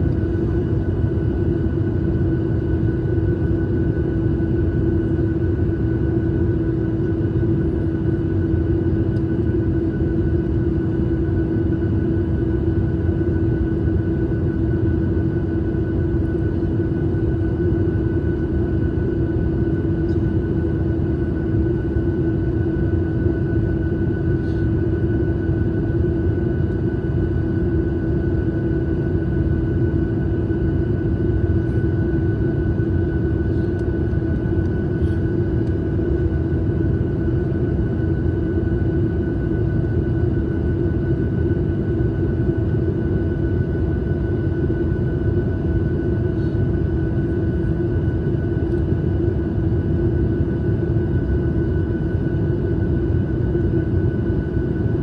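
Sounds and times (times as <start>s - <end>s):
airliner engines and airflow rumble: 0.0s - 55.0s.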